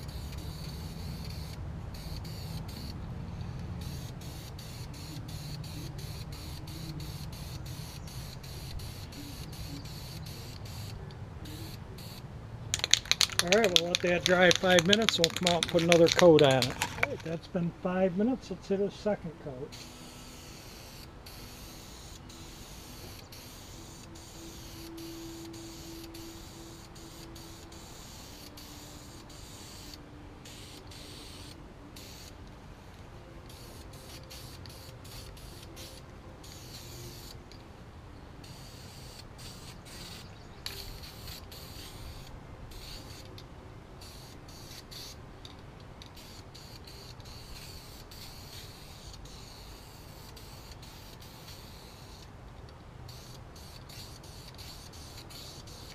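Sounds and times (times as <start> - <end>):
aerosol paint spraying: 0.0 - 17.4, 19.7 - 32.4, 33.5 - 37.5, 38.4 - 43.4, 44.0 - 45.2, 46.0 - 52.3, 53.1 - 55.9.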